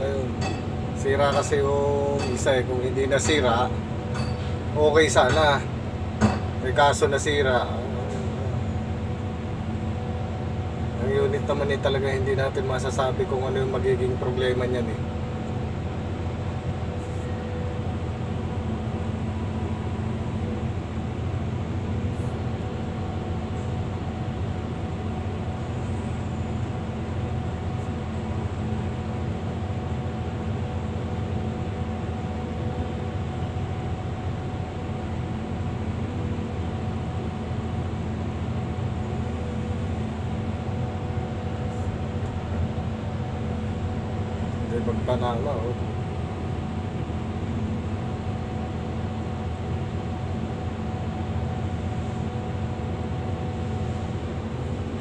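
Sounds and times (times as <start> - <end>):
excavator diesel engine drone: 0.0 - 55.0.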